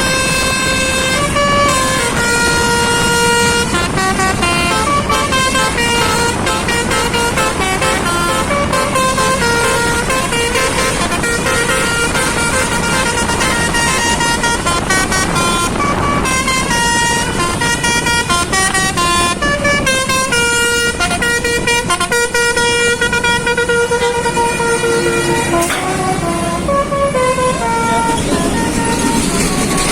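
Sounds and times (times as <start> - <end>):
engine and road noise: 0.0 - 29.9
multi-tone bus air horn tune: 0.0 - 29.9.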